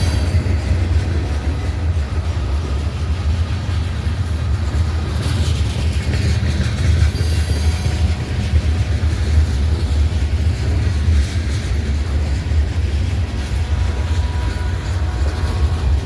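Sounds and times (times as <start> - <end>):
bright rail noise: 0.0 - 16.0
train rumbling on track: 0.0 - 16.0.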